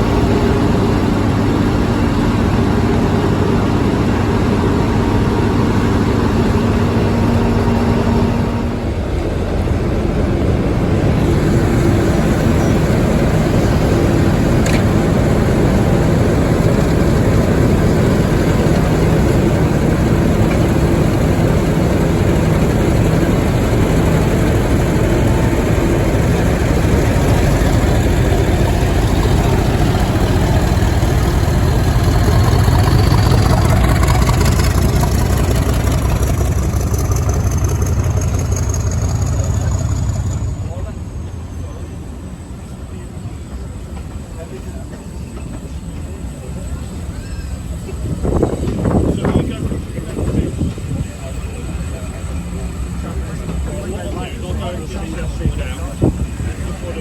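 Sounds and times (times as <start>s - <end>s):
diesel locomotive engine droning: 0.0s - 57.0s.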